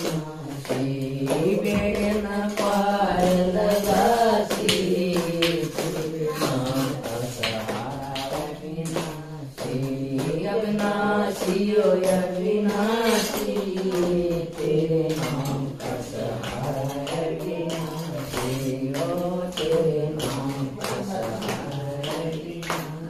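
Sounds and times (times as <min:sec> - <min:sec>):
hand claps: 0:00.0 - 0:23.0
women singing together: 0:00.0 - 0:23.0.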